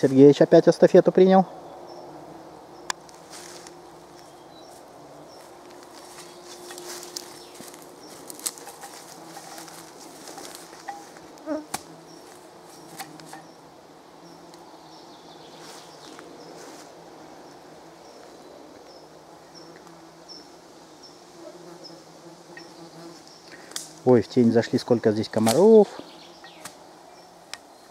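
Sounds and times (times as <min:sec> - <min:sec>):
flying insects buzzing: 0:01.2 - 0:27.9.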